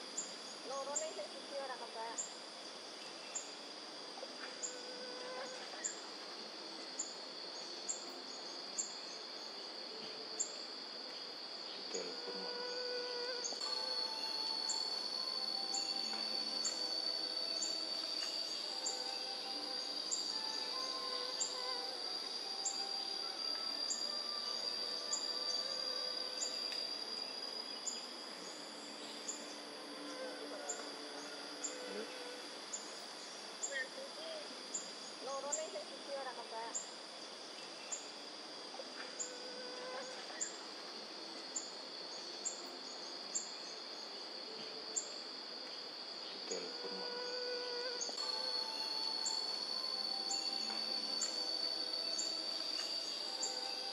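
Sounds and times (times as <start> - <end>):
insects droning: 0.0 - 53.9
thin high insect chirps: 0.0 - 53.9.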